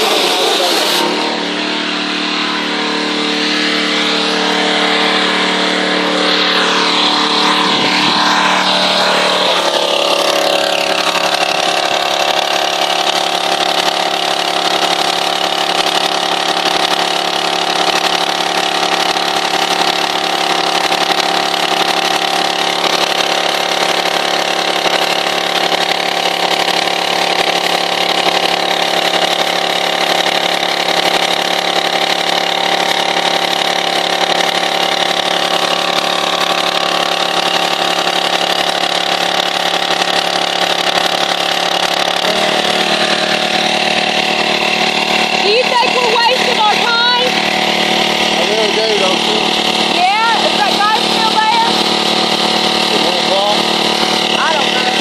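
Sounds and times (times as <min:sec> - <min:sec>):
pressure washer engine running: 0:00.0 - 0:55.0.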